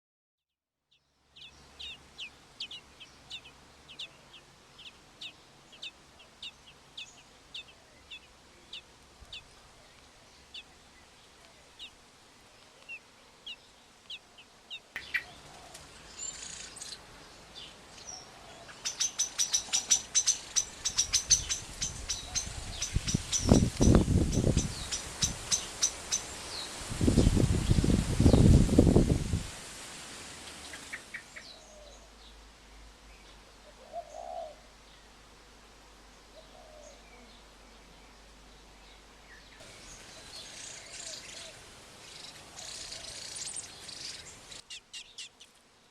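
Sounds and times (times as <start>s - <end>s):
birds chirping: 1.0s - 12.0s, 12.6s - 28.5s, 30.3s - 35.1s, 36.4s - 45.6s.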